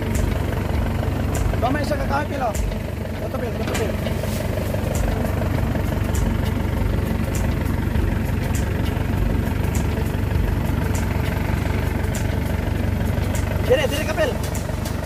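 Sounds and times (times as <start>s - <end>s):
harvester engine idling: 0.0s - 15.0s
light high ticking: 0.0s - 15.0s.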